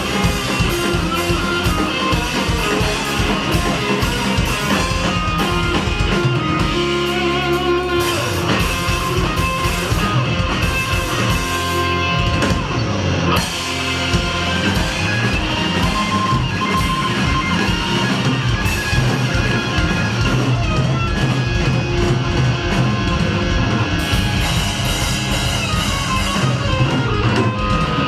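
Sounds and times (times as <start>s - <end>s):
bass guitar: 0.0s - 28.0s
drum kit: 0.0s - 28.0s
electric guitars: 0.0s - 28.0s.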